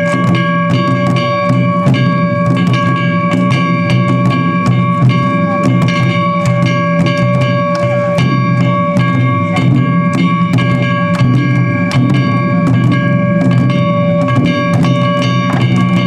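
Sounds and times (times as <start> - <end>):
high ringing tone: 0.0 - 16.0
taiko drums beating: 0.0 - 16.0.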